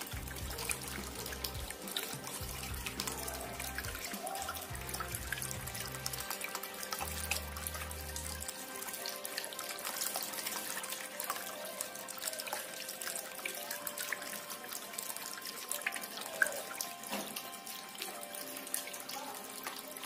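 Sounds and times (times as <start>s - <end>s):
background music: 0.0s - 20.0s
fountain water splashing: 0.0s - 20.0s.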